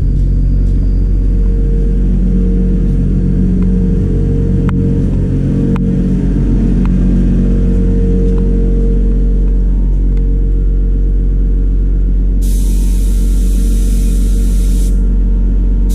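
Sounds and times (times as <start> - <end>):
machine motor humming: 0.0 - 15.9.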